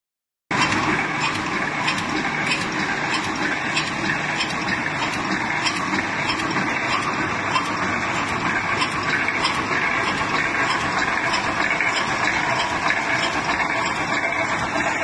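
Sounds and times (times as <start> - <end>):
machine clattering with sharp clicks: 0.5 - 15.0.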